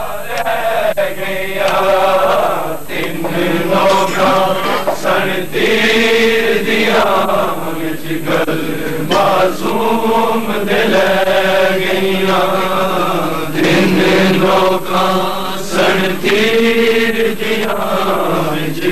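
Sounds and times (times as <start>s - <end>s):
men chanting a lament: 0.0s - 18.9s.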